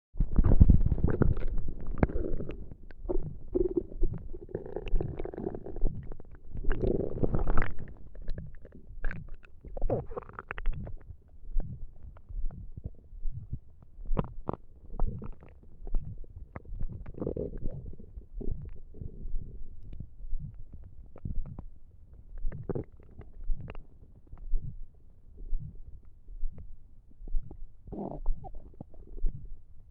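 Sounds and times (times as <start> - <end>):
stomach growling and gurgling: 0.1 - 29.9.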